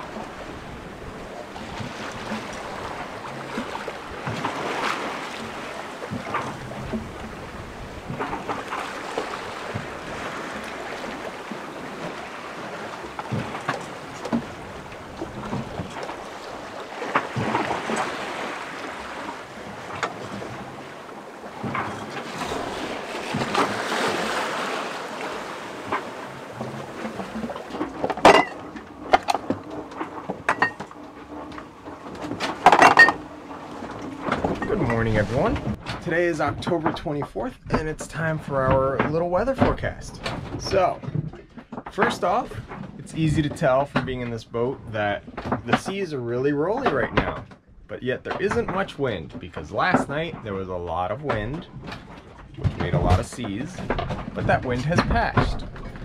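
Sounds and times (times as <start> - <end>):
sharp knocks and rattles: 0.0 - 37.0, 38.6 - 43.0, 46.8 - 56.0
waves breaking along a hull: 0.0 - 56.0
wind: 0.0 - 56.0.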